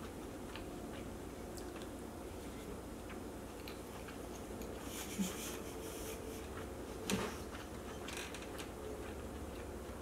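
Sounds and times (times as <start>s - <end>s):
chewing: 0.0s - 10.0s.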